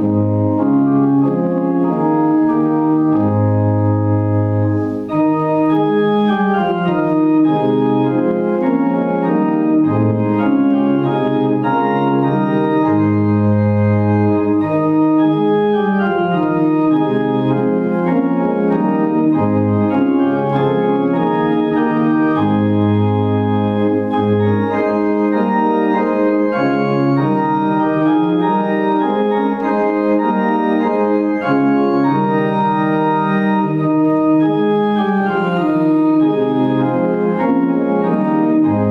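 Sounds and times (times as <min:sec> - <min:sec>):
organ playing sustained chords: 0:00.0 - 0:38.9.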